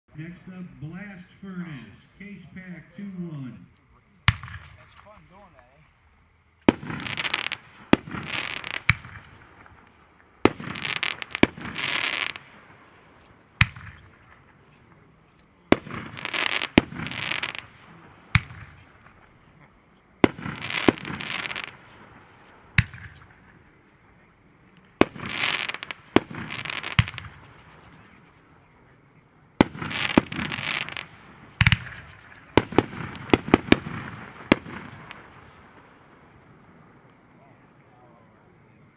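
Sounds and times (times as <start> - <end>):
firework shots: 0.2 - 5.8, 6.6 - 38.8
firework hissing: 4.0 - 37.7.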